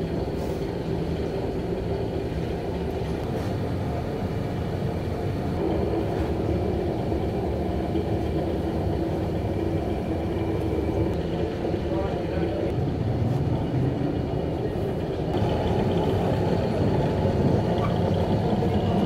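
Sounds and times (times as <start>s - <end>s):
machinery rumbling: 0.0s - 19.0s.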